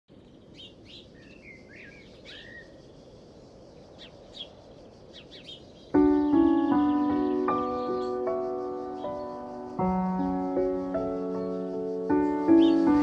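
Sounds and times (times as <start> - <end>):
outdoor background hiss: 0.1 - 13.0
small birds chirping: 0.1 - 13.0.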